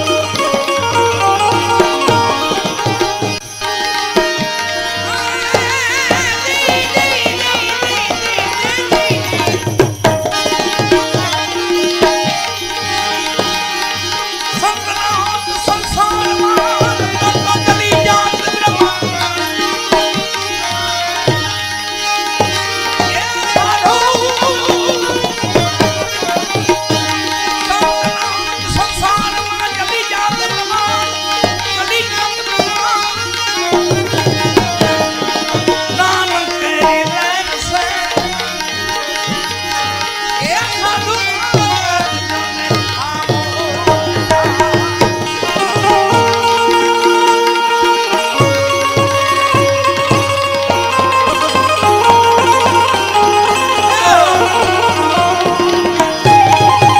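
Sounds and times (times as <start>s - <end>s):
sustained melodic instrument lines: 0.0s - 56.9s
tabla drumming: 0.0s - 56.9s.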